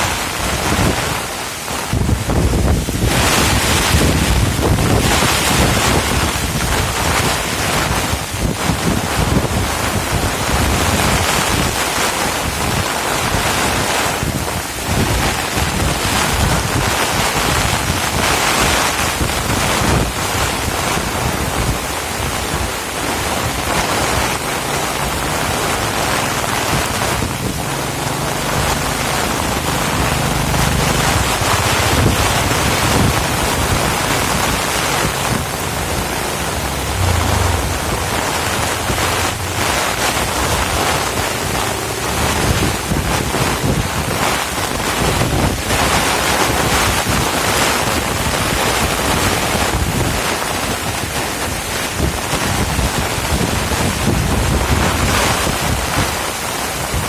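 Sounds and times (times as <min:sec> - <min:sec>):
heavy rain: 0:00.0 - 0:57.0
wind buffeting microphone: 0:00.0 - 0:57.0.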